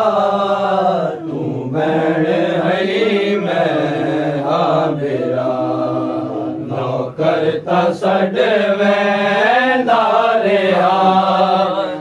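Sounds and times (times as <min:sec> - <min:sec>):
men chanting slow melody: 0:00.0 - 0:12.0.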